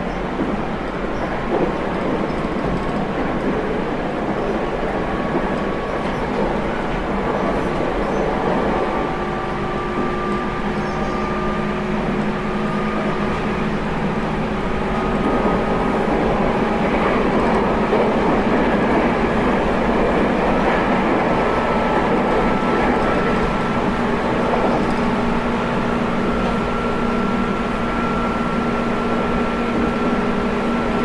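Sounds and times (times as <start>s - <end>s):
electric train rolling: 0.0s - 31.0s.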